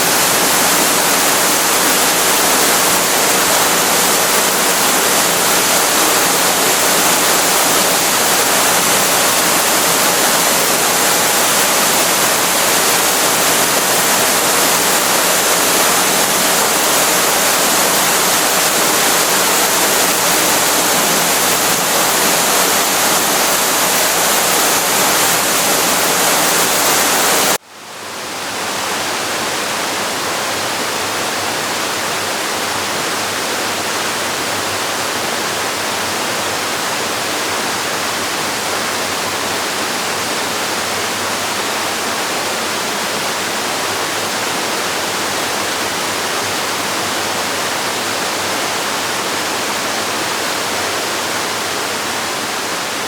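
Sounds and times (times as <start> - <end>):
waterfall rushing: 0.0 - 27.6, 28.5 - 53.0.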